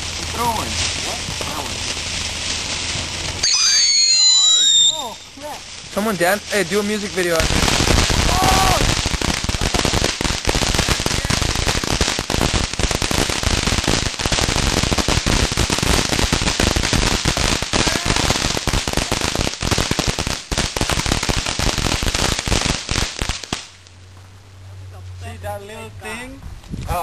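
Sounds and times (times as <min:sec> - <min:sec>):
firecrackers popping: 0:00.0 - 0:24.1.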